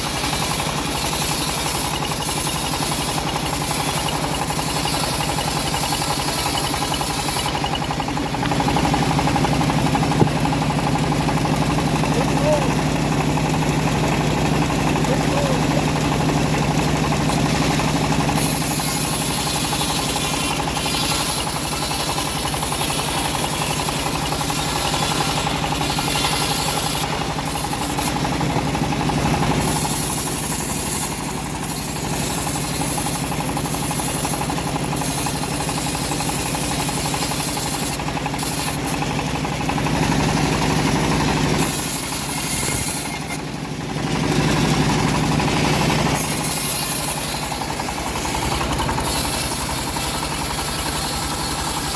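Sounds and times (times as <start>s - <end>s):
band saw blade hissing through wood: 0.0s - 12.6s, 14.2s - 43.4s, 44.6s - 51.9s
sawmill engine drone: 0.0s - 51.9s.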